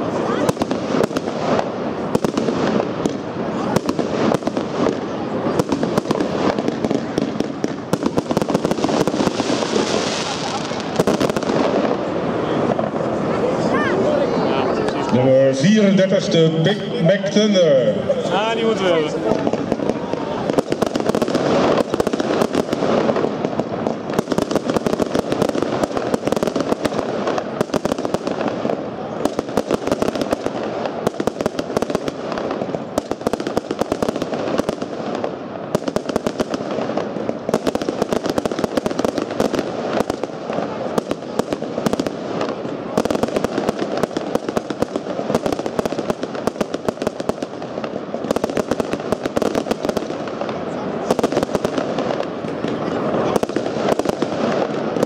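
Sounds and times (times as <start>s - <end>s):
fireworks rapid bangs and pops: 0.0s - 13.6s, 19.0s - 55.0s.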